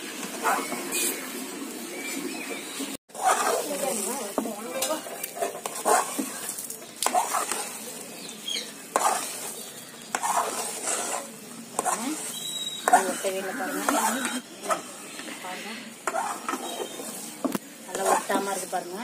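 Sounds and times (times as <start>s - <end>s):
halwa sizzling and bubbling: 0.0s - 19.0s
ladle scraping metal pan: 3.1s - 19.0s.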